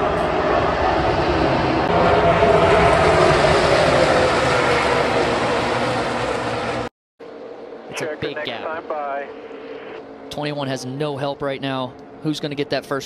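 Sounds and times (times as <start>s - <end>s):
race cars roaring past: 0.0s - 12.8s.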